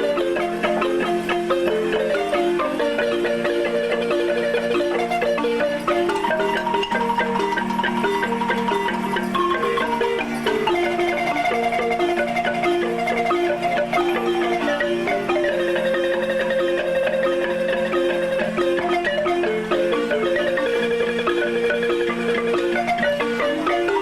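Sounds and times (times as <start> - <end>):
marimba music: 0.0 - 24.0.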